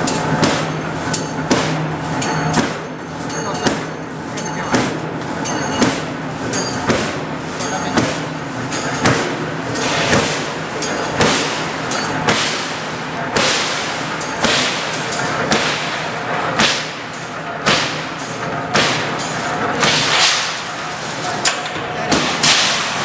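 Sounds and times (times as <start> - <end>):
punching press striking: 0.0 - 20.5
steady motor hum: 0.0 - 23.0.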